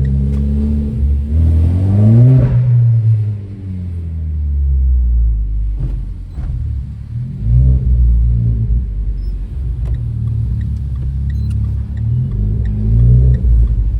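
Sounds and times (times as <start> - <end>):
car engine drone under throttle: 0.0 - 13.9.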